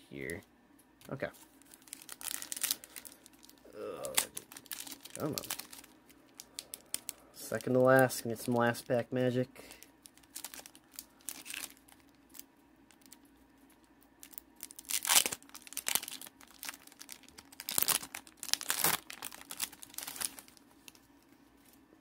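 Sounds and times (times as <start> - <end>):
foil wrapper crinkling and tearing: 1.6 - 9.0, 9.6 - 21.0.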